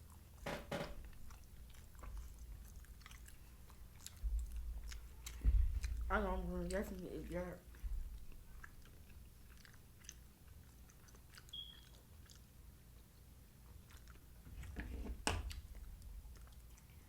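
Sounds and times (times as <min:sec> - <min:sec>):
wet chewing: 0:01.0 - 0:17.0.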